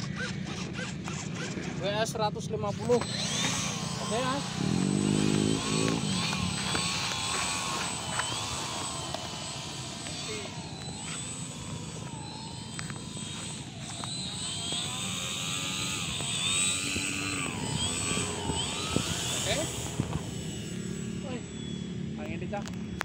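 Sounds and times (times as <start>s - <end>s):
model airplane motor and propeller: 0.0s - 23.0s.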